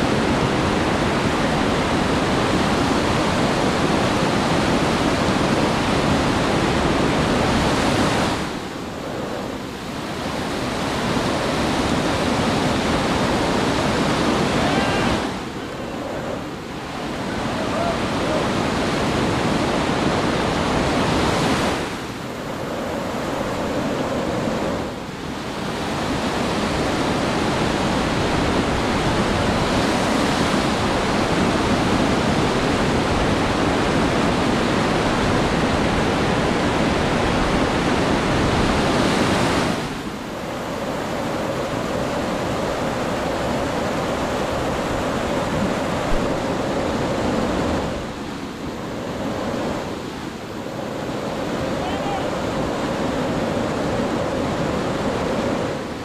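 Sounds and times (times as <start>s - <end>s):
water rushing over boulders: 0.0s - 48.2s.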